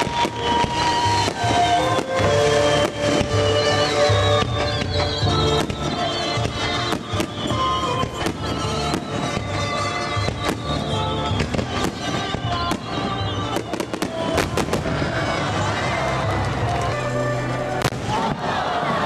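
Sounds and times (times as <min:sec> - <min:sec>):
fireworks bangs and crackles: 0:00.0 - 0:19.0
steady music: 0:00.0 - 0:19.0.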